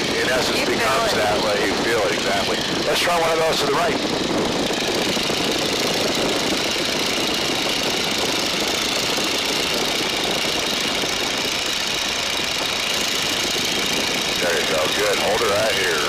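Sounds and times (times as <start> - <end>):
propeller plane engine running: 0.0 - 16.0.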